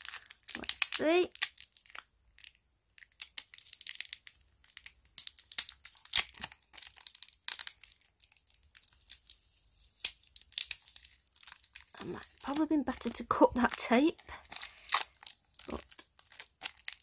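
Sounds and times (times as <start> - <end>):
sticky tape crackling and ripping: 0.0 - 17.0.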